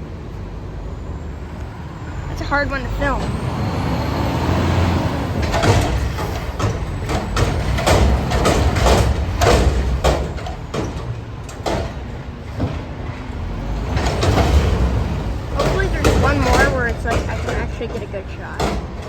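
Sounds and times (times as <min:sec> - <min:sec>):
garbage truck diesel engine: 0:00.0 - 0:19.0
metal clanks and bangs: 0:02.4 - 0:19.0.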